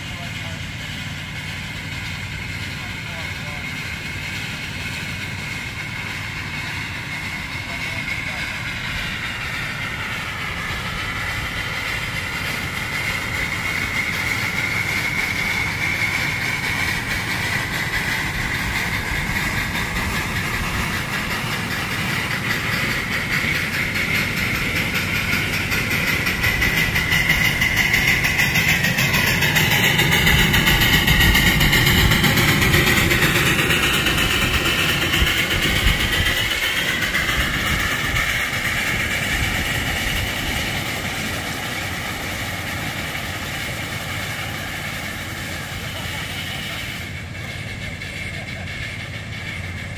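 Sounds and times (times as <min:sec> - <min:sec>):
steam locomotive running: 0:00.0 - 0:49.9.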